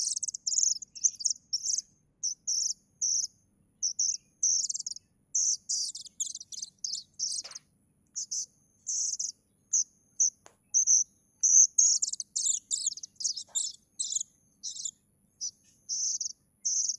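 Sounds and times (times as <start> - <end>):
cuckoo chick calling: 0.0 - 7.6, 8.2 - 16.9.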